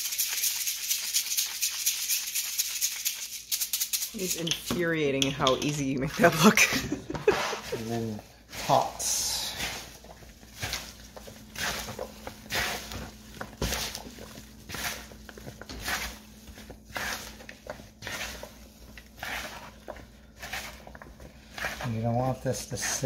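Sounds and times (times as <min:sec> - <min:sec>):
hands squishing leaves in bowl: 0:00.0 - 0:06.5, 0:07.3 - 0:23.0.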